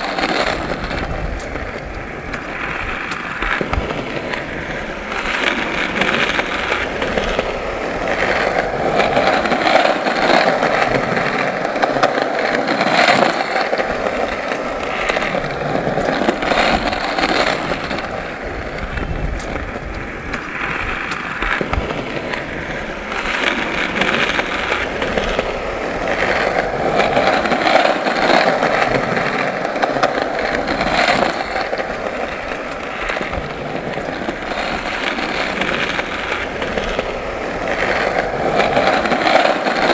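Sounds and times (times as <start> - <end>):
skateboard clicks and clacks: 0.0 - 39.9
skateboard wheels rolling: 0.0 - 39.9.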